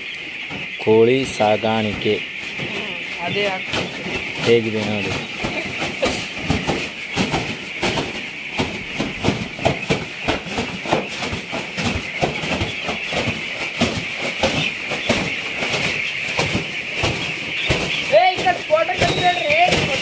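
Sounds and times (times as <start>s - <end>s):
chicks peeping: 0.0s - 20.0s
knocks and rustles: 0.0s - 20.0s.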